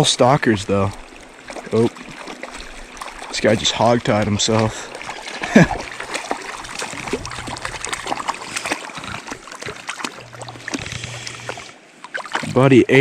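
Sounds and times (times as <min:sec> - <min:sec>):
creek water splashing and trickling: 0:00.0 - 0:13.0
fish thrashing at surface: 0:01.5 - 0:12.6.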